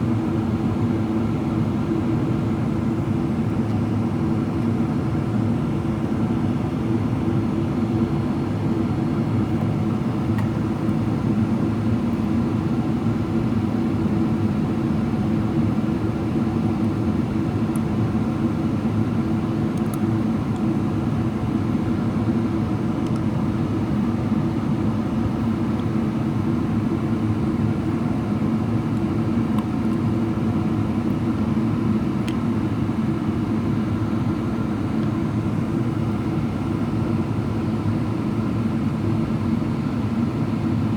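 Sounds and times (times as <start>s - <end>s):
airflow rush in cabin: 0.0s - 40.9s
low jet engine hum: 0.0s - 40.9s.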